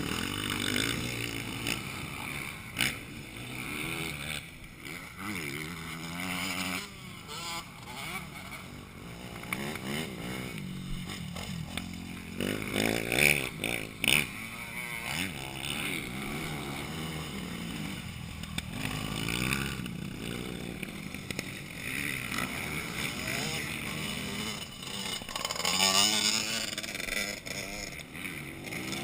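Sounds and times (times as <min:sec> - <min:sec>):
motocross bikes revving past: 0:00.0 - 0:29.0.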